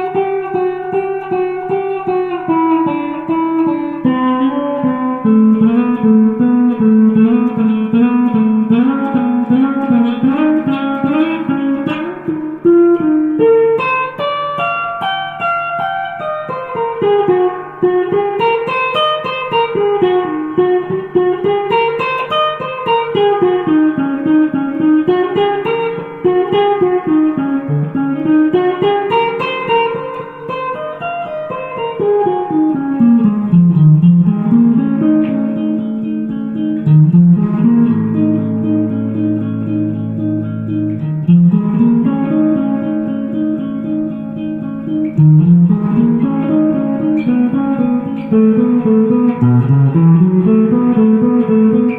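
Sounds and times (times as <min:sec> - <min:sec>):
guitar playing: 0:00.0 - 0:51.9.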